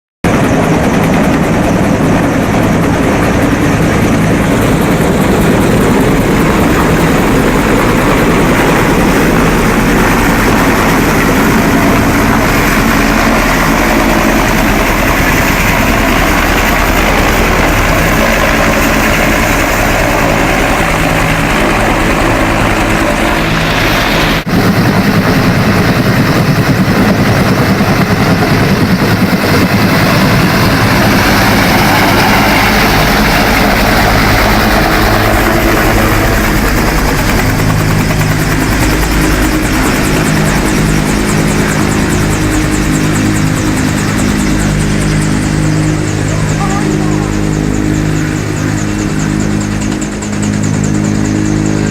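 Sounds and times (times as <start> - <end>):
helicopter rotor and engine: 0.2 - 51.9.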